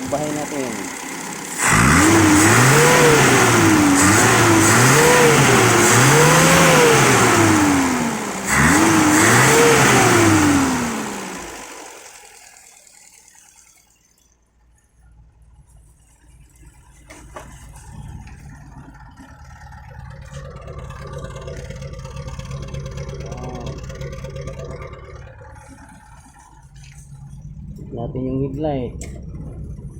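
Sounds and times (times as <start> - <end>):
small motorcycle engine revving: 0.0 - 14.2, 16.6 - 27.1.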